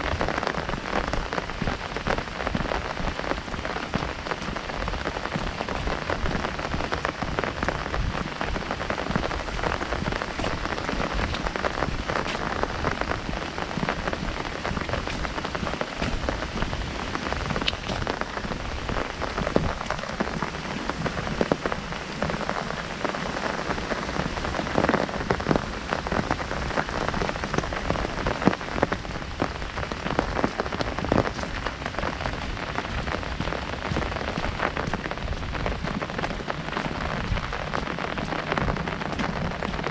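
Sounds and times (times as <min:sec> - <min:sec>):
heavy drip: 0:00.0 - 0:39.9
heavy rain drumming on umbrella: 0:00.0 - 0:39.9.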